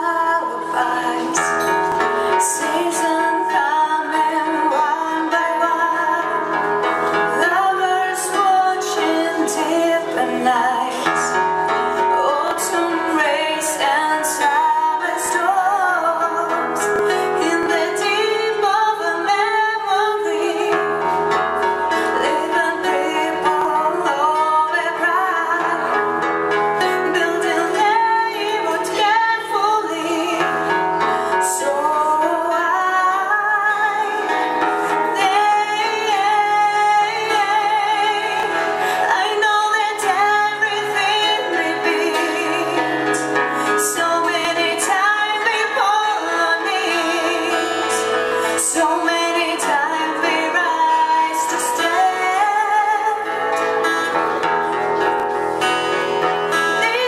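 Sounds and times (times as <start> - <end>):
guitar: 0.0 - 57.0
woman singing with vibrato: 0.0 - 57.0.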